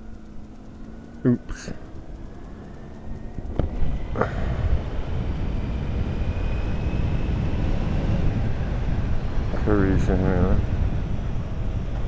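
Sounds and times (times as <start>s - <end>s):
faint rising whine: 0.0s - 12.0s
motorcycle engine accelerating: 0.0s - 12.0s.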